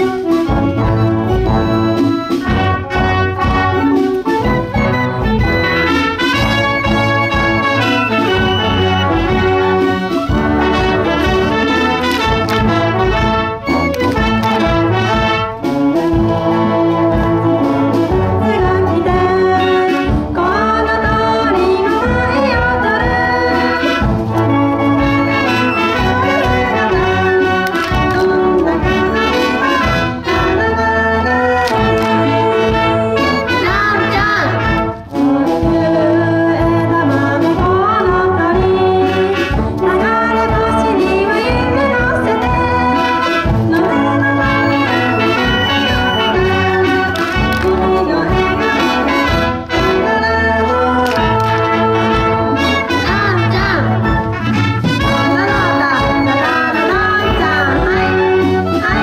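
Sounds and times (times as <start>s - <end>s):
brass band playing: 0.0s - 59.0s
drums keeping a steady beat: 0.0s - 59.0s.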